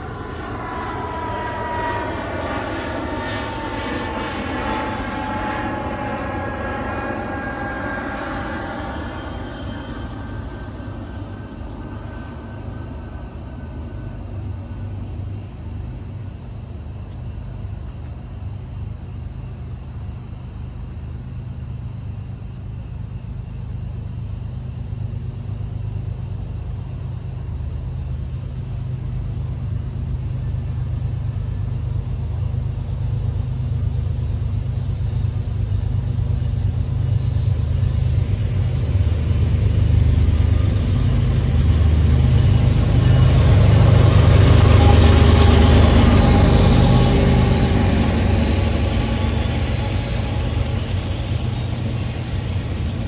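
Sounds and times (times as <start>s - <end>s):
insects chirping: 0.0s - 53.0s
train low rumble: 0.0s - 53.0s
train whining tones: 0.0s - 53.0s.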